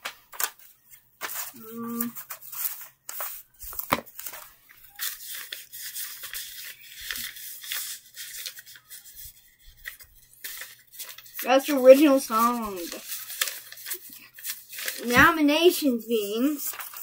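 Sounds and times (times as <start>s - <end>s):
paper rustling and scratching: 0.0s - 17.0s.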